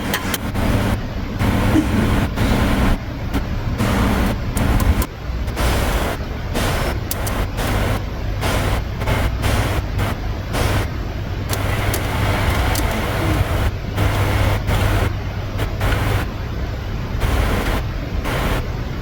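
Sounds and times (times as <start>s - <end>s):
machine humming: 0.0s - 19.0s
noise: 0.0s - 19.0s.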